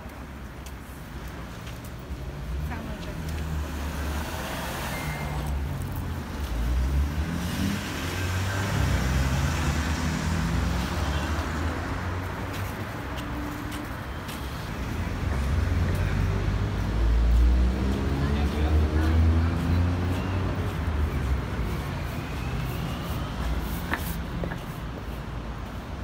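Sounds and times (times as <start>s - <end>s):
cars driving past: 1.6s - 26.0s.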